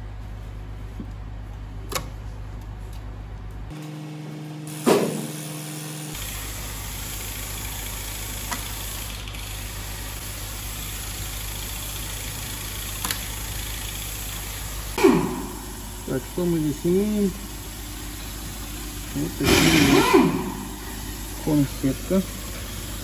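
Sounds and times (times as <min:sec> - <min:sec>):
steady machine drone: 0:00.0 - 0:00.9, 0:03.0 - 0:23.0.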